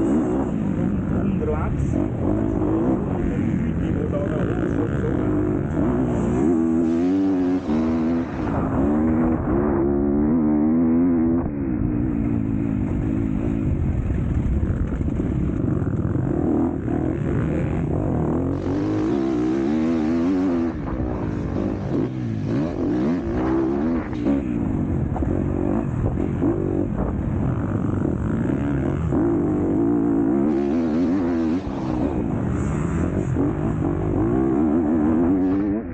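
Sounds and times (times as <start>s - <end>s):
motocross motorcycle engine: 0.0s - 35.9s.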